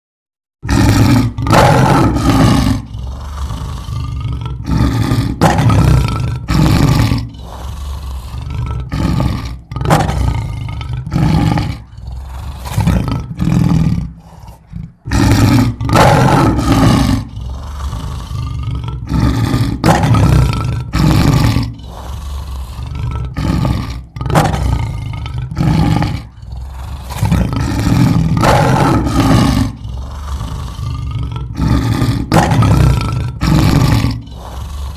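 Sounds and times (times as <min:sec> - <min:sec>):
lion roaring: 0:00.6 - 0:34.9.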